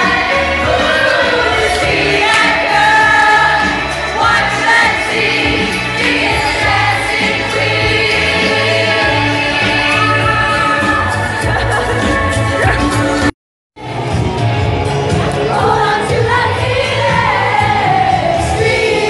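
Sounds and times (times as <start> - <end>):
dance music with sung vocals: 0.0 - 13.3, 13.9 - 19.0
partygoers singing along: 0.0 - 13.3, 15.1 - 19.0.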